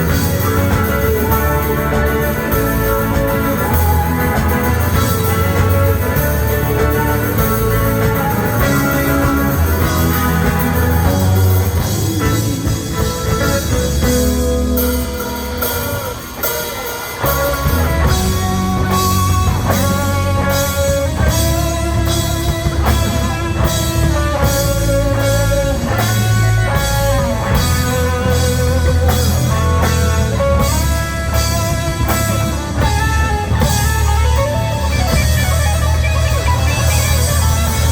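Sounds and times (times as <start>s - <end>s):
rock music: 0.0s - 37.9s.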